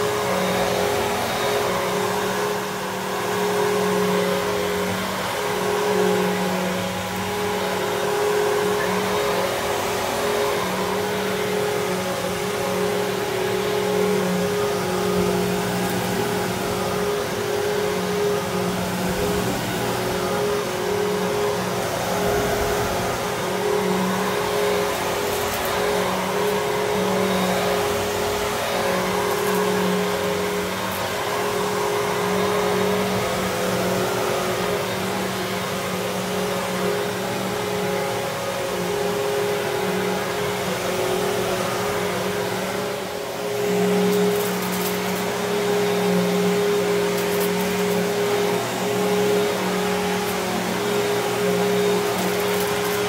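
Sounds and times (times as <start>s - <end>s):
vacuum cleaner running on carpet: 0.0s - 53.0s.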